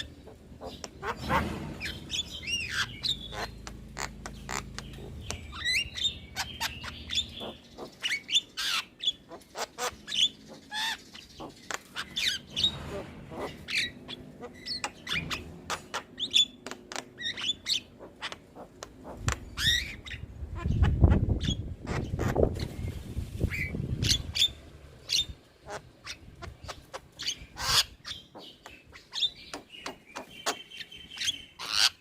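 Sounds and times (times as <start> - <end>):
harsh bird calls: 0.0 - 32.0
myna bird singing: 0.0 - 32.0.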